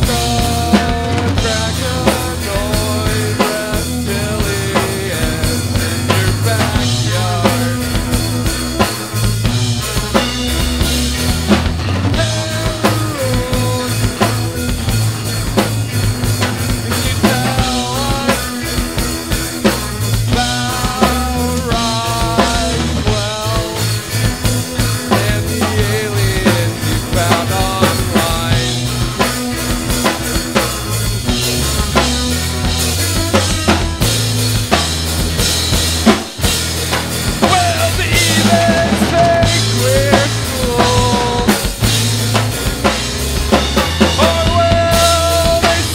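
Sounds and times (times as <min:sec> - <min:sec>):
bass line: 0:00.0 - 0:45.9
drum kit beat: 0:00.0 - 0:45.9
electric guitar melodic lines: 0:00.0 - 0:45.9.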